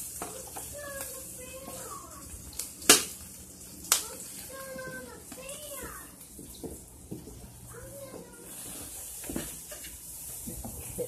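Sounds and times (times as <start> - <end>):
food sizzling in pans: 0.0 - 11.0.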